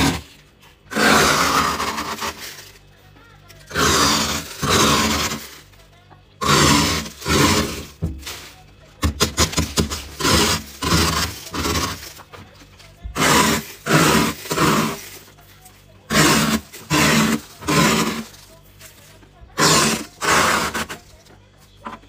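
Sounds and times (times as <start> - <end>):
plastic scoop scraping frost: 0.0 - 22.0.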